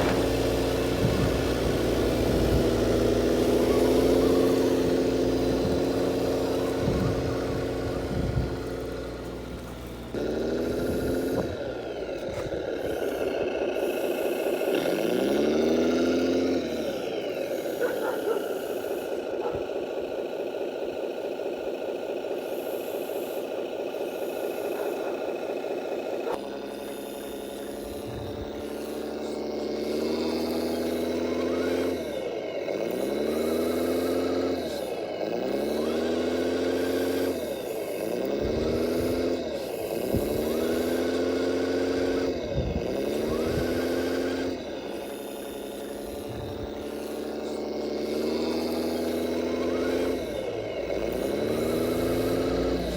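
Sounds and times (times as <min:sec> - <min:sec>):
radio-controlled machine motor: 0:00.0 - 0:52.9.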